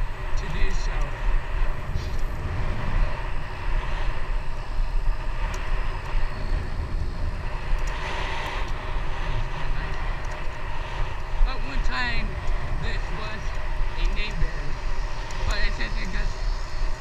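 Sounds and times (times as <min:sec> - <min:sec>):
bicycle tyres rolling on asphalt: 0:00.0 - 0:17.0
wind rushing over microphone: 0:00.0 - 0:17.0.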